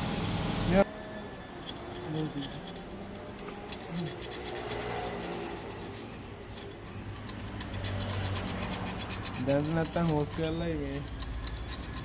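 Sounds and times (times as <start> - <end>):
light scratching strokes: 1.6 - 12.0.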